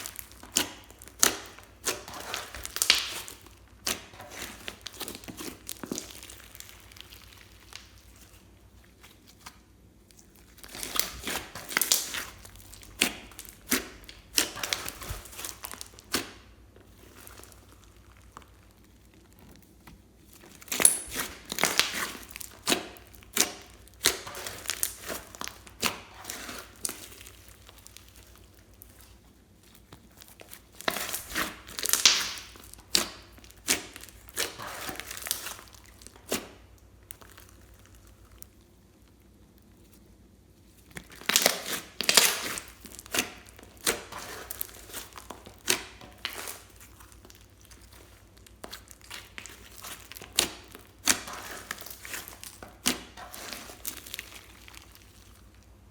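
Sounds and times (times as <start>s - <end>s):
slime crackling and popping: 0.0s - 55.9s.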